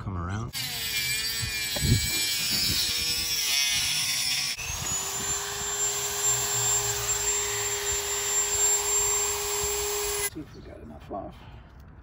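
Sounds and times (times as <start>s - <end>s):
rotary tool cutting metal: 0.6s - 10.3s.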